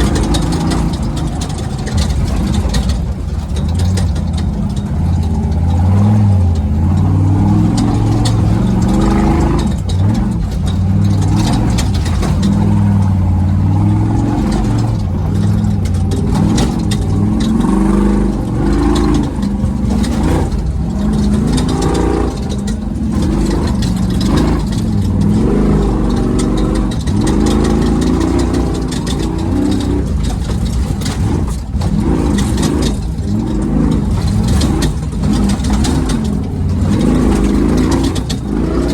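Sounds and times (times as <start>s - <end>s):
knocks and rattles of truck: 0.0s - 38.9s
truck engine revving: 0.0s - 38.9s.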